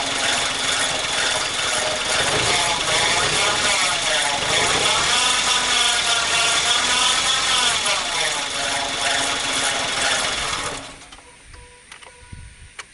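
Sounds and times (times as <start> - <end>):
car alternator grinding whine: 0.0 - 11.2.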